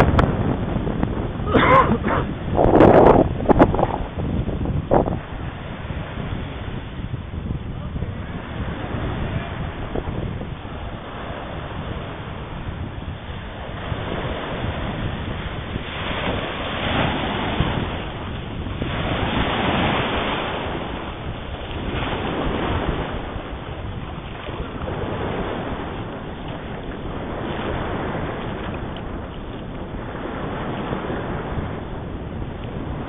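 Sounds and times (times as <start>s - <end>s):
surf rushing: 0.0s - 33.0s
waves washing in: 0.0s - 33.0s
wind buffeting microphone: 0.0s - 33.0s.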